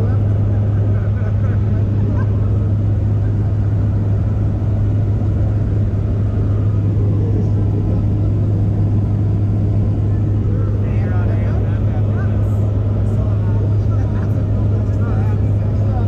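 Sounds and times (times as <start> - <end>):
plane engines droning: 0.0 - 16.0.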